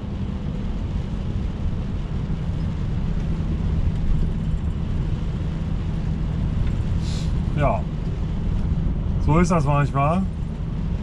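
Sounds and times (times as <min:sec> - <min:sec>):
diesel truck engine drone: 0:00.0 - 0:11.0
road noise: 0:00.0 - 0:11.0.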